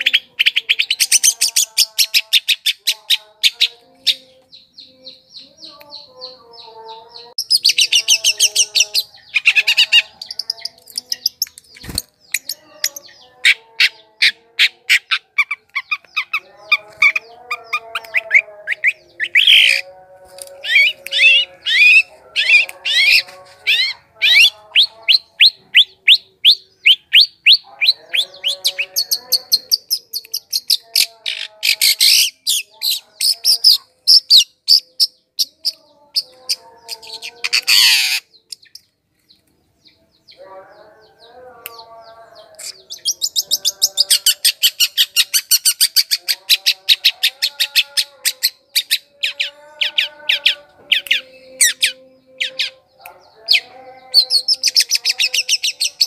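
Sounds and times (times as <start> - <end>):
shrike song recording: 0.0 - 56.0.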